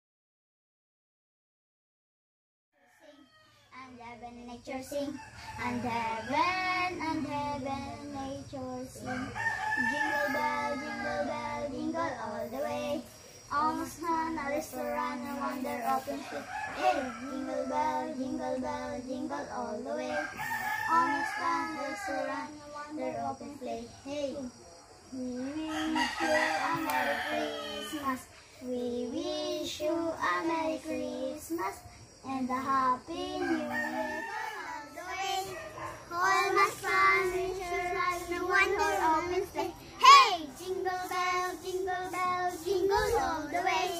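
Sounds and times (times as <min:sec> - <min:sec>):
boy singing a carol: 0:03.0 - 0:43.9.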